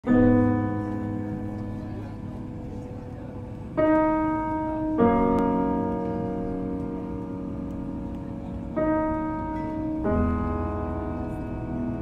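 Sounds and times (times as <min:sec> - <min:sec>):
slow sustained music chords: 0:00.1 - 0:12.0.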